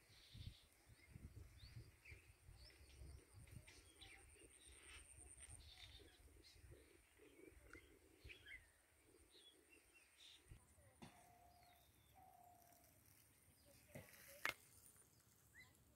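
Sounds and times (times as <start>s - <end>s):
faint birds chirping: 0.0s - 15.9s.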